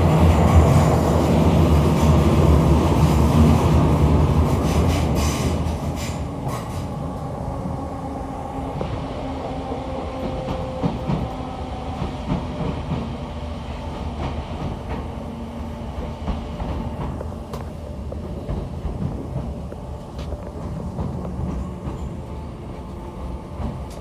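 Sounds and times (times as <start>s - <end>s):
train wheels clicking: 0.0s - 7.3s, 8.7s - 24.0s
train carriage low rumble: 0.0s - 24.0s.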